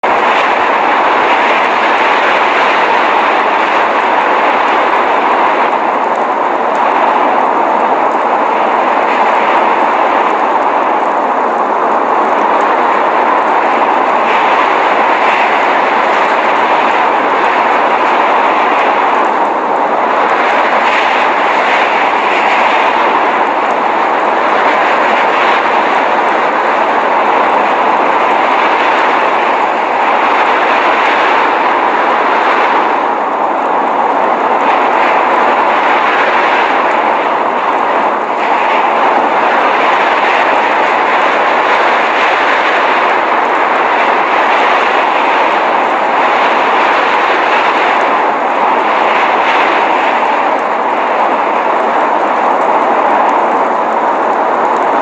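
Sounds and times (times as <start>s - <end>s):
snowstorm rushing noise: 0.0s - 55.0s.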